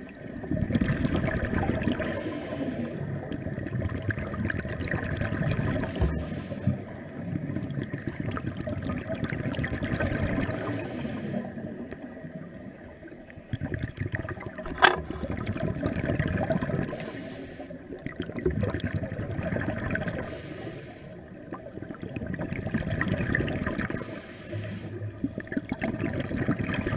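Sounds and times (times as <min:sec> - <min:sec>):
underwater bubbles gurgling: 0:00.0 - 0:26.9.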